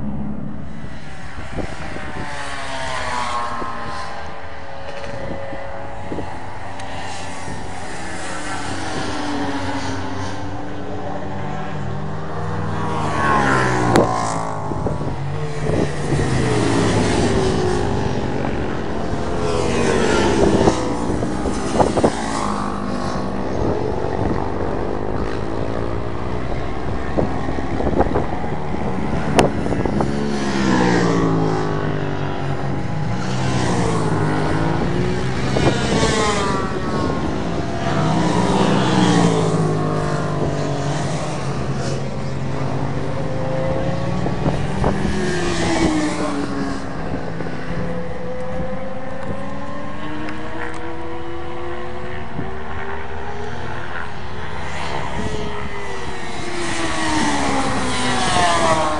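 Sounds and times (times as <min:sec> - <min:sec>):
racing motorcycles passing: 0:00.0 - 0:58.9.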